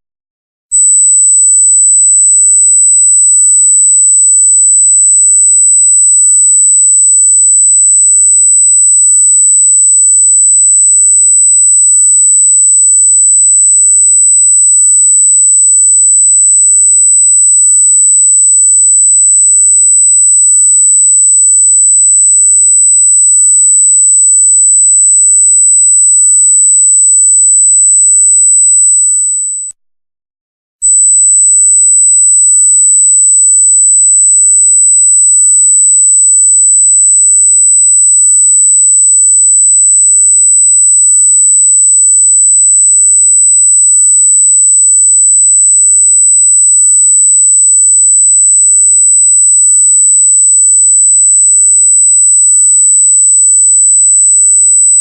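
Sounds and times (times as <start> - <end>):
high-pitched sine tone: 0.7 - 29.8, 30.8 - 55.0.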